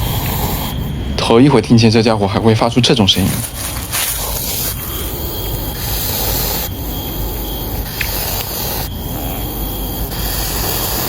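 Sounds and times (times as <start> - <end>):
hedgehog hissing and huffing: 0.0 - 1.5, 2.5 - 11.0.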